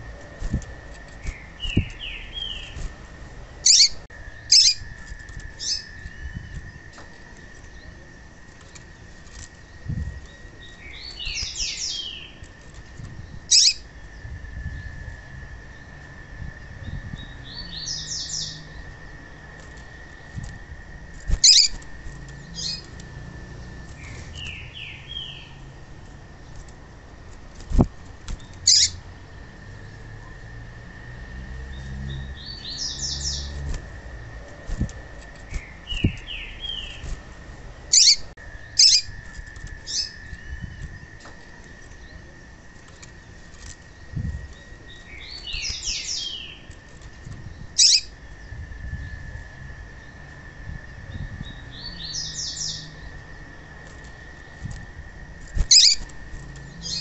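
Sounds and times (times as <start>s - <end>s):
bird chirping: 0.0s - 3.0s, 3.6s - 15.0s, 15.7s - 20.5s, 21.3s - 25.8s, 27.7s - 30.4s, 31.6s - 49.3s, 49.9s - 54.8s, 55.6s - 57.0s
wing flutters: 0.0s - 15.0s, 18.7s - 29.2s, 32.6s - 49.0s, 53.0s - 57.0s.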